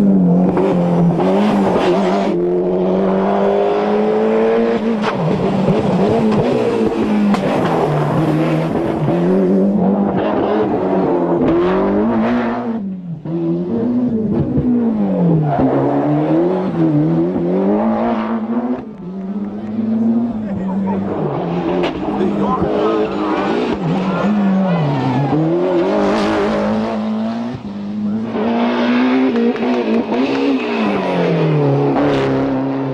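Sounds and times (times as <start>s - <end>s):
rally car engines at full throttle: 0.0s - 32.9s.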